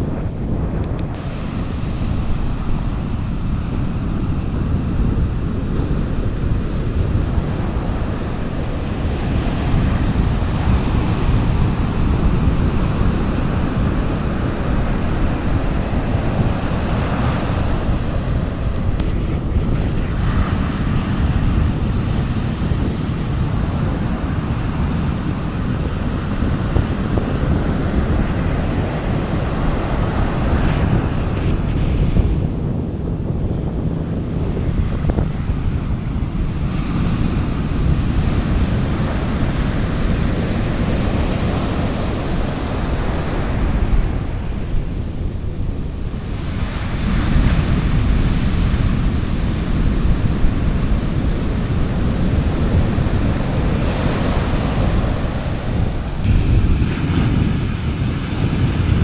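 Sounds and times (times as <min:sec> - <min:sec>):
sea waves washing onto beach: 0:00.0 - 0:59.0
wind rumble on microphone: 0:00.0 - 0:59.0.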